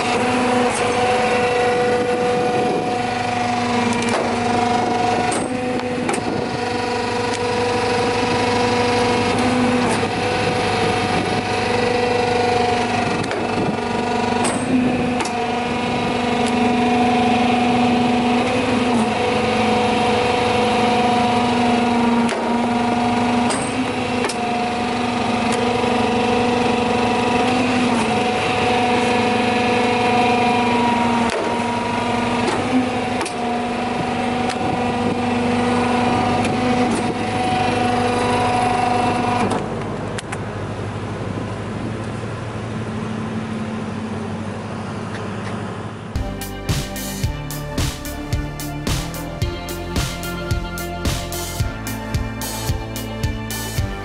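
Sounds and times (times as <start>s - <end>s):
hydraulic press humming and whining: 0.0s - 54.0s.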